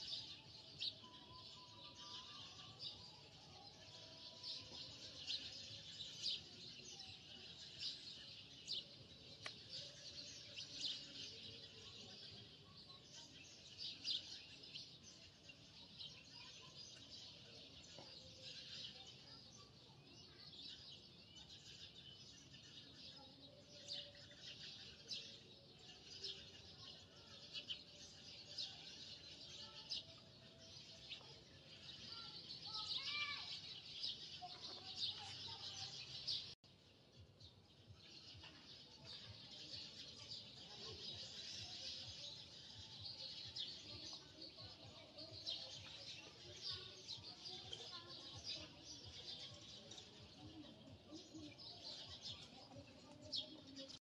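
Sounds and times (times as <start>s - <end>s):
birds chirping faintly: 0.0s - 54.0s.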